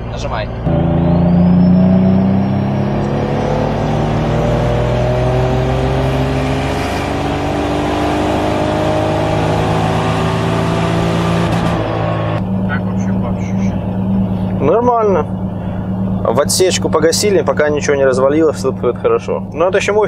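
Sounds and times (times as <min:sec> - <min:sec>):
car engine revving at full throttle: 0:00.0 - 0:20.0.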